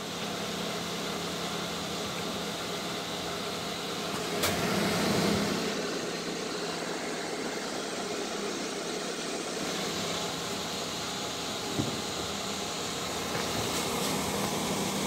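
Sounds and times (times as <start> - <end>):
exhaust fan whirring: 0.0 - 15.0.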